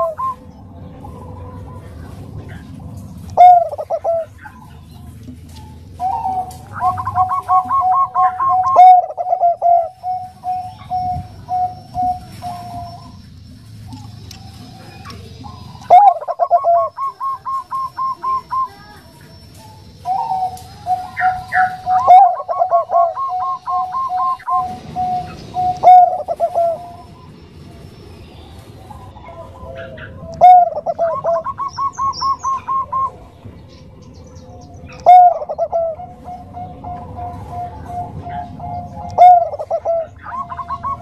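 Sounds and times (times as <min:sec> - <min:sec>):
dove cooing: 0:00.0 - 0:27.4, 0:28.6 - 0:33.6, 0:34.2 - 0:41.0.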